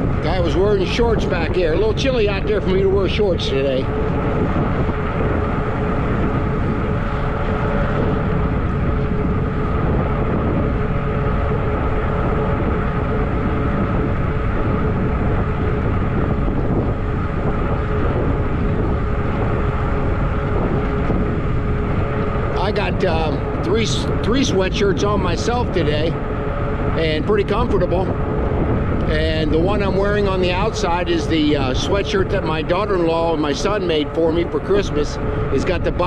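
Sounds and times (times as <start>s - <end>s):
electric bike hum: 0.0s - 36.0s
wind rushing over microphone: 0.0s - 36.0s.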